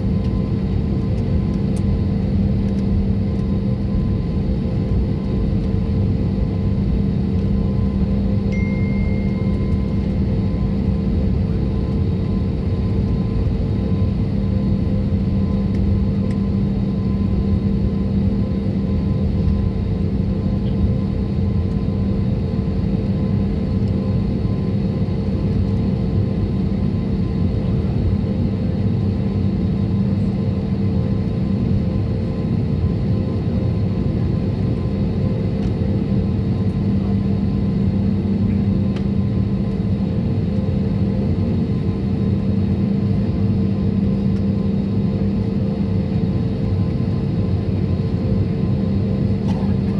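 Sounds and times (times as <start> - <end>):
jet engines in airliner cabin: 0.0 - 49.9.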